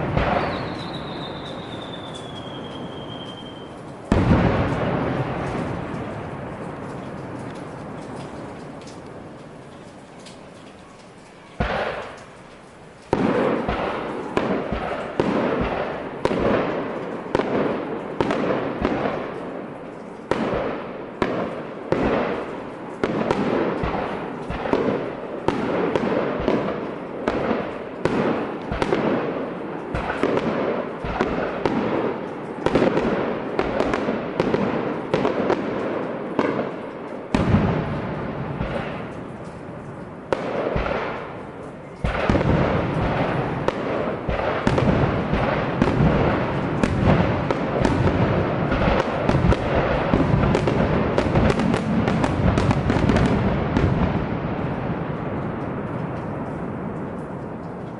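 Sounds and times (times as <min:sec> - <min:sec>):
fireworks bangs with rumbling echo: 0:00.0 - 0:10.7, 0:11.3 - 0:57.9.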